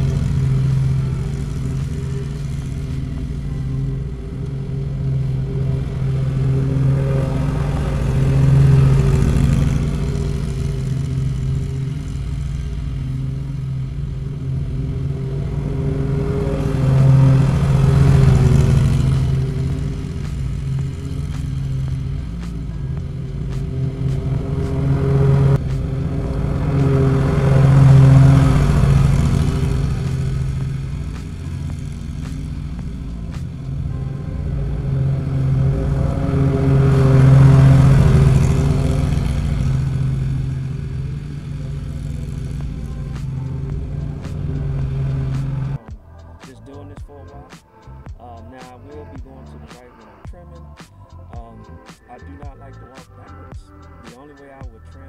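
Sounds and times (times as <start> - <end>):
riding mower engine hum: 0.0 - 48.1.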